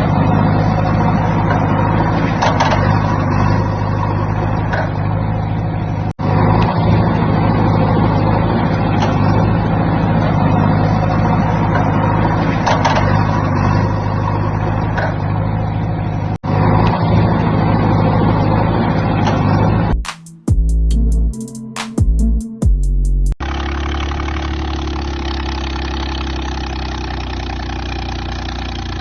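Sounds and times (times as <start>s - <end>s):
construction machinery engine drone: 0.0s - 20.1s, 23.4s - 29.0s.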